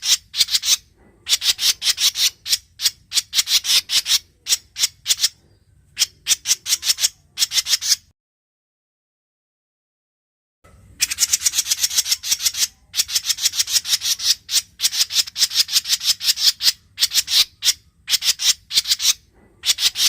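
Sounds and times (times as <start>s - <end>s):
scratchy bird chatter: 0.0s - 8.1s, 11.0s - 20.0s.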